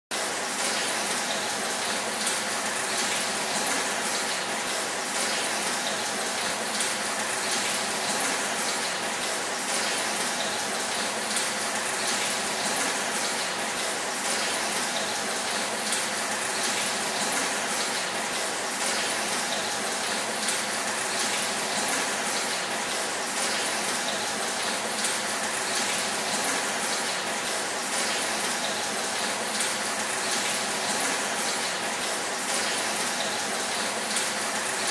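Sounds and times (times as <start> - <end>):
water pattering on metal roof: 0.2 - 34.9.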